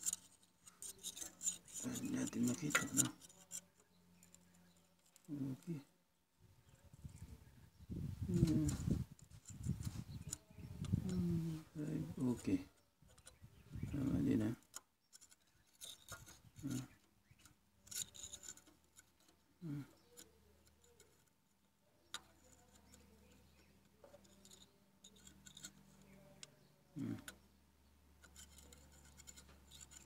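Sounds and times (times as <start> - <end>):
caliper scraping and ticking: 0.0 - 5.8, 8.3 - 27.5, 28.1 - 30.0.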